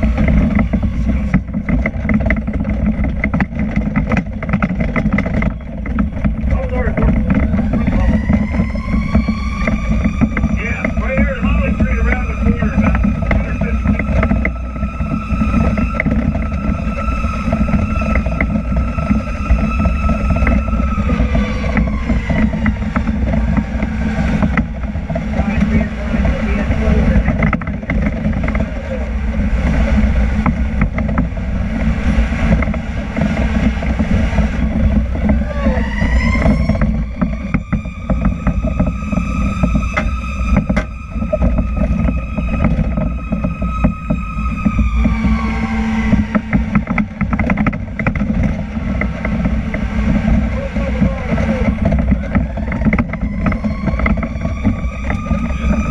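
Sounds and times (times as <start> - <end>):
fire truck siren: 0.0 - 55.9
heavy engine and road rumble: 0.0 - 55.9
scattered rattles: 0.0 - 55.9
steady high whine: 0.0 - 55.9
wind on microphone: 0.0 - 55.9.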